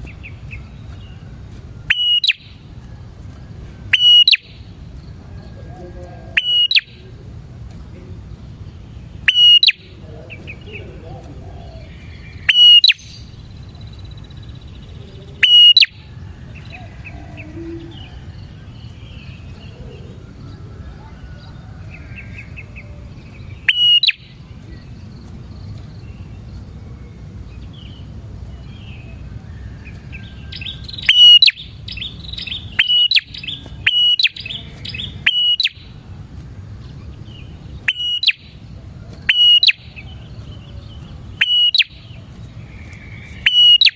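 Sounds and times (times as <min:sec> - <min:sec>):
faint bird twittering: 0:00.0 - 0:43.9
bird sharp chirps: 0:01.8 - 0:02.7, 0:03.9 - 0:04.9, 0:06.3 - 0:07.2, 0:08.6 - 0:26.7, 0:27.6 - 0:36.0, 0:36.8 - 0:43.9.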